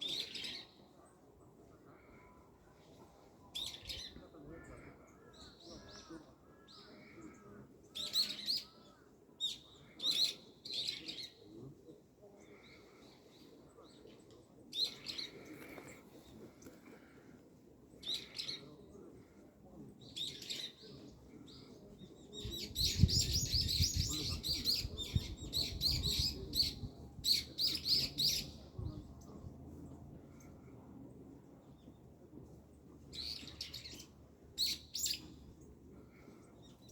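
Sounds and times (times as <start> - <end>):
small birds chirping: 3.4 - 29.4, 30.2 - 36.9.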